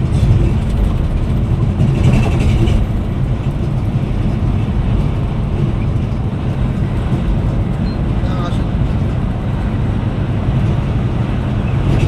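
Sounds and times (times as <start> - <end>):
coach engine and road rumble: 0.0 - 12.0.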